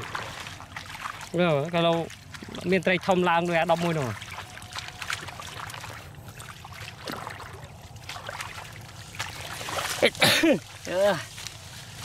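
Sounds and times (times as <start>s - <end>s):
feet wading through water: 0.0s - 12.0s
trickling water: 0.0s - 12.0s.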